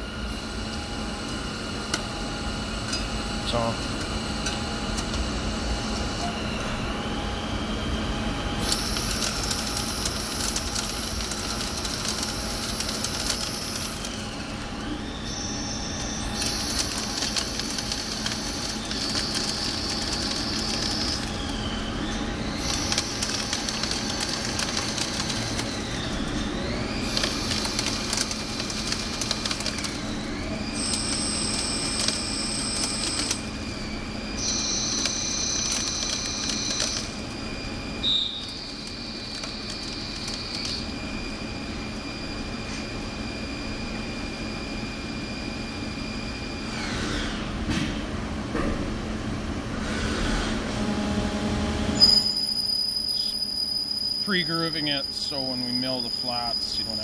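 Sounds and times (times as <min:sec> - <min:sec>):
high cutting whines: 0:00.0 - 0:42.6, 0:52.0 - 0:57.0.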